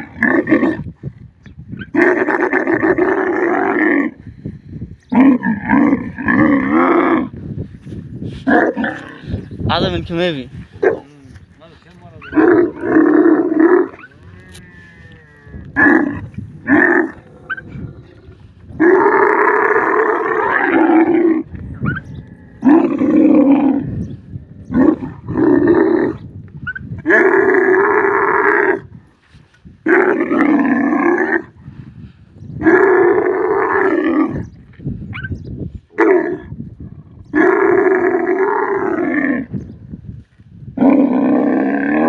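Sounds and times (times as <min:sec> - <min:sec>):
camels bellowing: 0:00.0 - 0:00.9, 0:01.8 - 0:04.3, 0:05.1 - 0:07.4, 0:08.4 - 0:09.5, 0:10.7 - 0:11.4, 0:12.1 - 0:29.0, 0:29.8 - 0:31.6, 0:32.6 - 0:39.8, 0:40.7 - 0:42.0.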